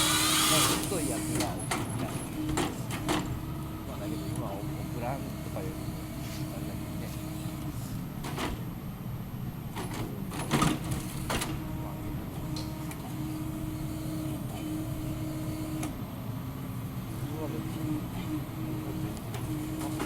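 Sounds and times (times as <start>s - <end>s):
harvester engine hum: 0.0s - 20.0s.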